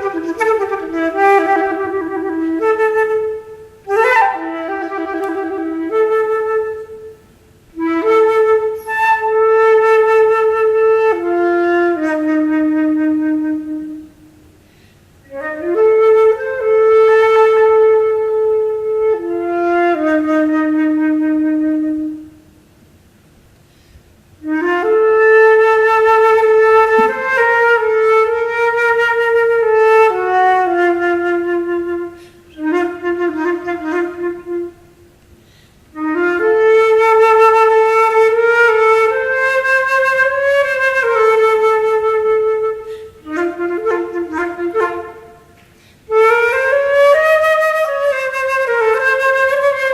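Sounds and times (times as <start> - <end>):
solo flute playing low notes: 0.0 - 14.5, 15.2 - 22.6, 24.3 - 35.1, 35.9 - 49.9.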